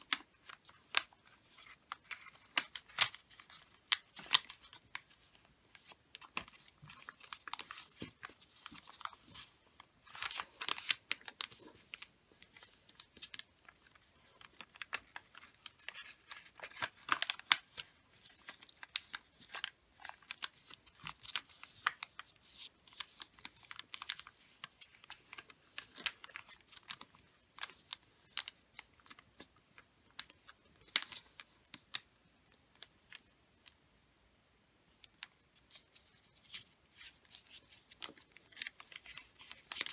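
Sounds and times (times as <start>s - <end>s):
wrapping paper rustling: 0.0s - 33.3s, 35.1s - 39.9s.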